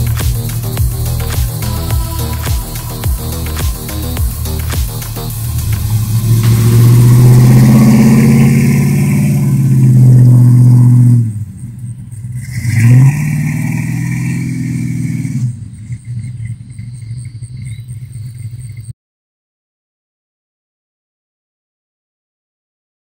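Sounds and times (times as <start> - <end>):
car engine accelerating: 0.0 - 18.7.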